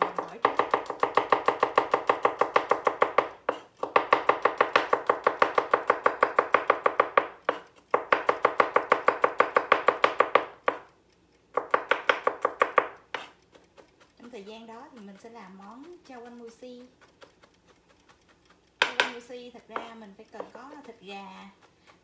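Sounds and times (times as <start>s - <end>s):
knife chopping on cutting board: 0.0s - 10.9s, 11.5s - 22.0s.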